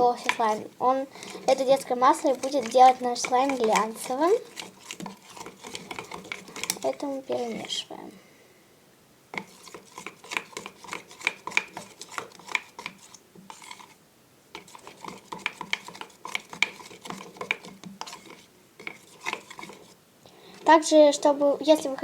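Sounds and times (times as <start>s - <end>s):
utensil scraping a bowl: 0.0s - 7.8s, 9.3s - 20.8s.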